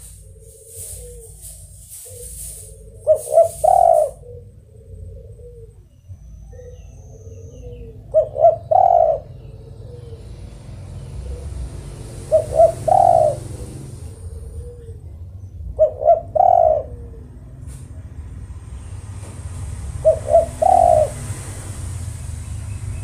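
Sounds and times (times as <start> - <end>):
dove cooing: 0.0 - 18.0, 19.7 - 22.0.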